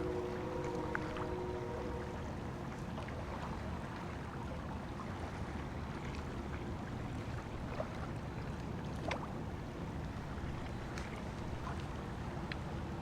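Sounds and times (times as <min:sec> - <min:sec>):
water waves: 0:00.0 - 0:13.0.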